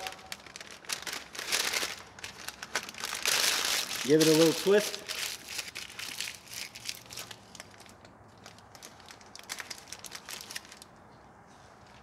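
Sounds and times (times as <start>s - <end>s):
paper crinkling and crackling: 0.0s - 11.0s.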